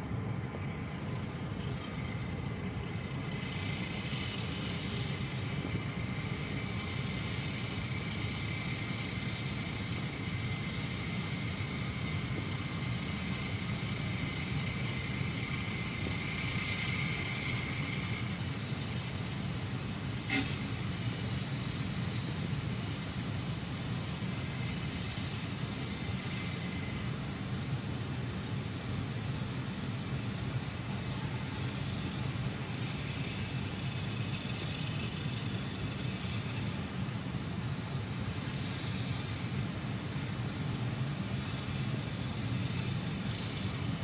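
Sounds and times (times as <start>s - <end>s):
train wheels rumbling and clattering: 0.0s - 44.0s
thin high steady tone: 0.6s - 44.0s.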